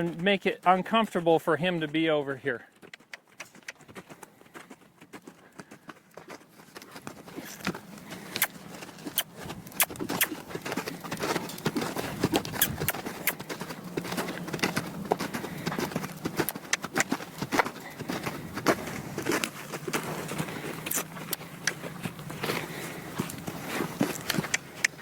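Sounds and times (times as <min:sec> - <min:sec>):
horse hoofbeats on ground: 0:00.0 - 0:25.0.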